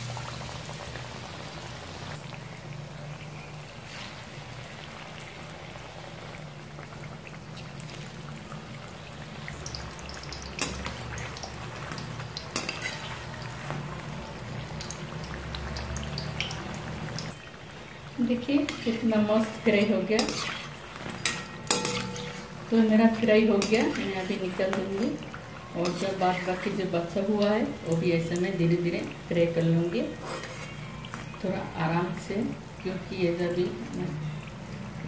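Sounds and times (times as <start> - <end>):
deep-frying sizzle and crackle: 0.0 - 35.0.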